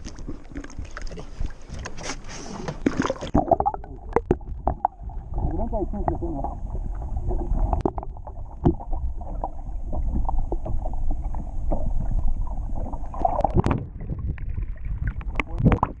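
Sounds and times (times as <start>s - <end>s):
muffled underwater sloshing: 0.0s - 16.0s.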